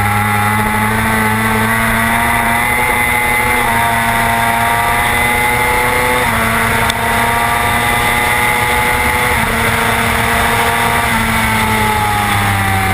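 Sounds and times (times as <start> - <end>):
motorcycle engine running: 0.0 - 12.9
wind and road noise: 0.0 - 12.9.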